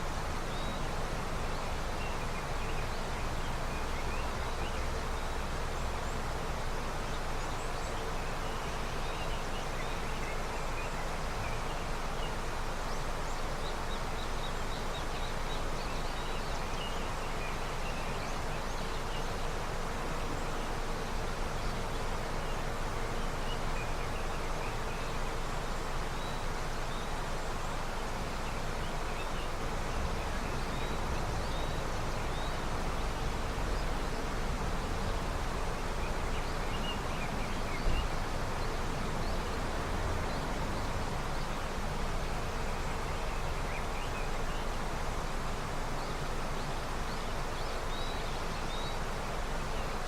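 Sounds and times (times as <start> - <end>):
river flowing: 0.0 - 50.0.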